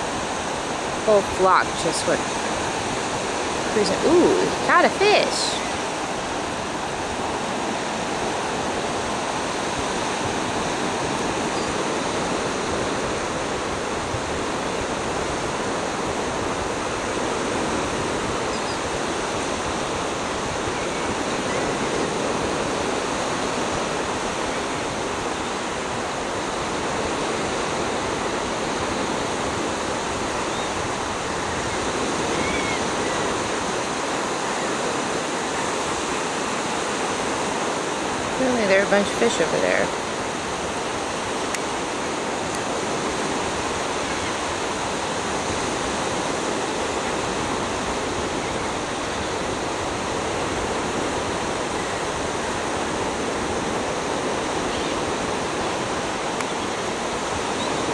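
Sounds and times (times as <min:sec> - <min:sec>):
waves roaring on beach: 0:00.0 - 0:57.9.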